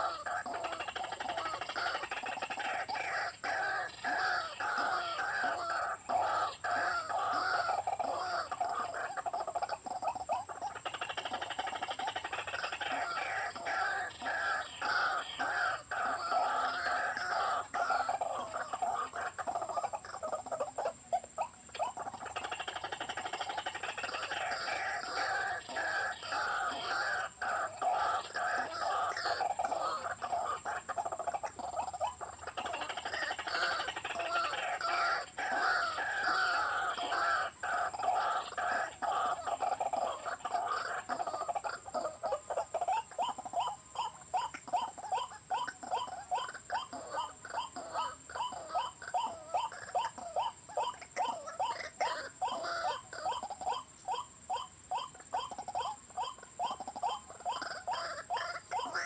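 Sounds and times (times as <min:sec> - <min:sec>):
birds harsh croaking calls: 0:00.0 - 0:59.0.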